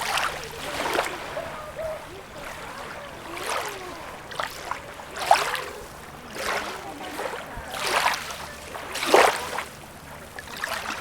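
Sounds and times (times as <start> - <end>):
sea waves splashing at shore: 0.0 - 11.0
water bubbling and gurgling: 0.0 - 11.0.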